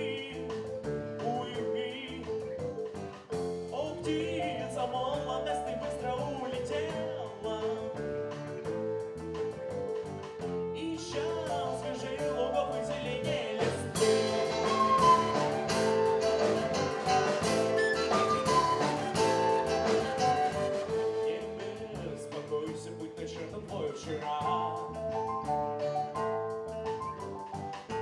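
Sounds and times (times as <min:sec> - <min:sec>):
drums: 0:00.0 - 0:28.0
live rock band playing: 0:00.0 - 0:28.0.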